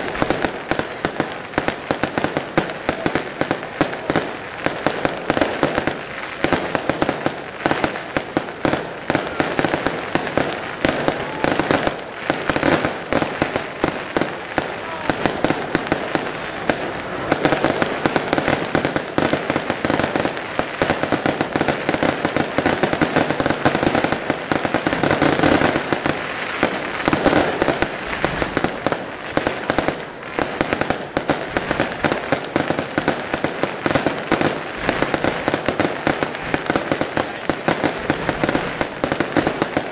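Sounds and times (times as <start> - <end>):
fireworks bursts and bangs: 0.0 - 39.9.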